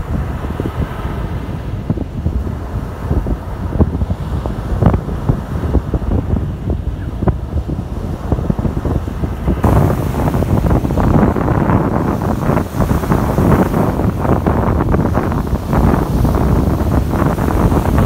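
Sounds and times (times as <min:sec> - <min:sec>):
sea surf washing ashore: 0:00.0 - 0:18.0
wind rumbling on microphone: 0:00.0 - 0:18.0.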